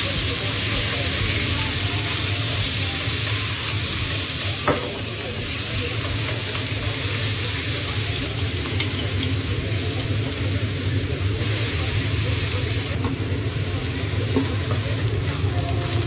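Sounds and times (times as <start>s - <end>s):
shrimp sizzling in hot oil: 0.0s - 16.0s.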